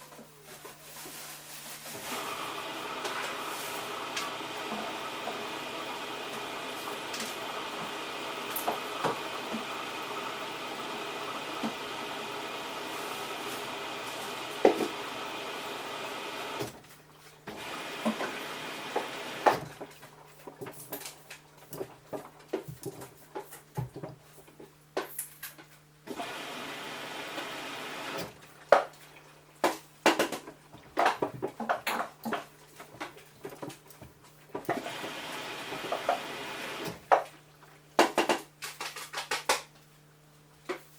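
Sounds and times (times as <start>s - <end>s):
washing machine hum: 0.0s - 24.9s, 26.0s - 40.9s.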